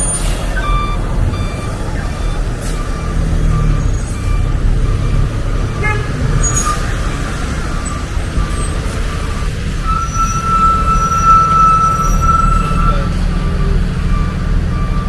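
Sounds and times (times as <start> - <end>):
heavy vehicle engine rumble: 0.0 - 15.0.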